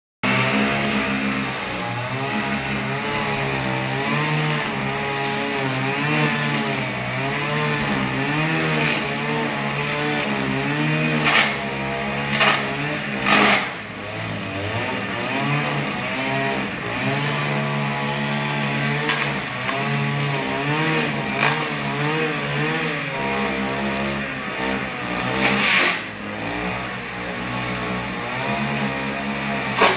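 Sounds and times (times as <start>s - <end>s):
string trimmer engine cutting grass: 0.2s - 29.9s.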